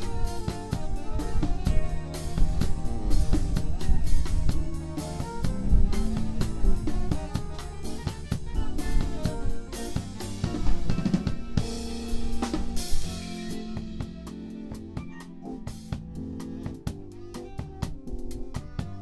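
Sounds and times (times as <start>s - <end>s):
band holding notes: 0.0s - 19.0s
jazz drum kit: 0.0s - 19.0s.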